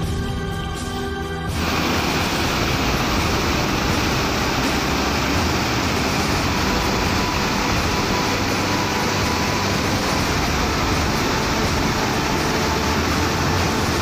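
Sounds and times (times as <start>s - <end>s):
water pouring over a weir: 1.5s - 14.0s.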